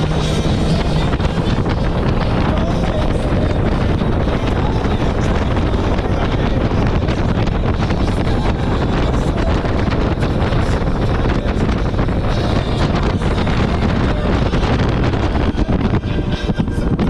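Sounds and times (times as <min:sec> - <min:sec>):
jet ski running: 0:00.0 - 0:17.0
wind buffeting microphone: 0:00.0 - 0:17.0.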